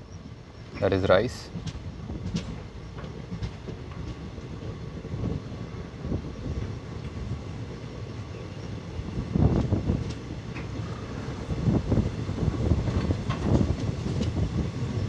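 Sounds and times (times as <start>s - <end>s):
irregular train thumps: 0.0s - 15.0s
train rumbling along track: 0.0s - 15.0s.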